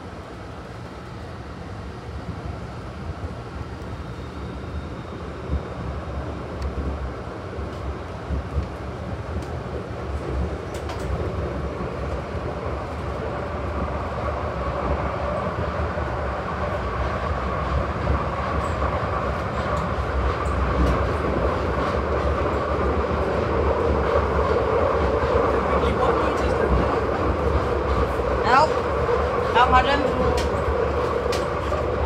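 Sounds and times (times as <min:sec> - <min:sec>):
subway train rumbling in tunnel: 0:00.0 - 0:32.0.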